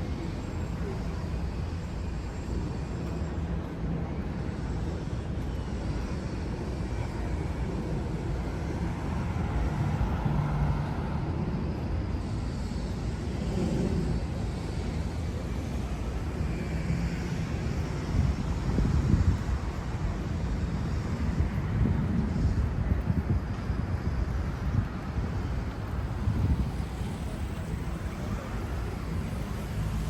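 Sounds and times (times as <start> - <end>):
city traffic rumbling: 0.0 - 30.0
vehicle engine: 0.0 - 30.0.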